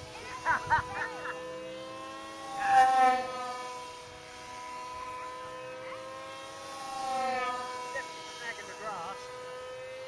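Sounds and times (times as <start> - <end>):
model plane motor buzzing whine: 0.0 - 10.0.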